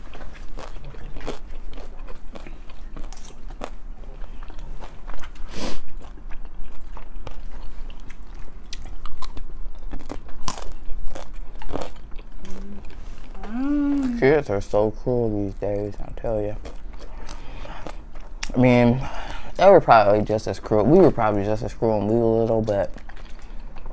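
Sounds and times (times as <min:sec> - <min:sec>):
people chewing and slurping: 0:00.0 - 0:23.9.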